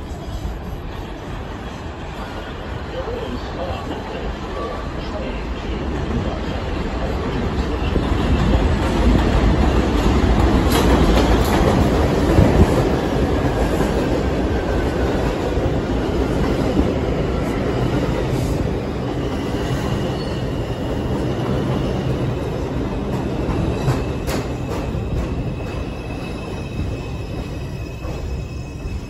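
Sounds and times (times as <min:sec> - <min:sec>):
train wheels rumbling and clacking: 0:05.0 - 0:29.0.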